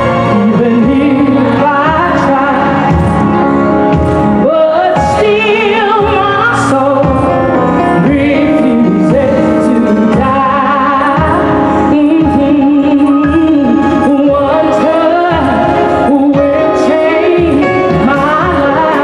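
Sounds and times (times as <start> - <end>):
woman singing gospel: 0.0 - 3.2, 4.3 - 19.0
band accompaniment: 0.0 - 19.0.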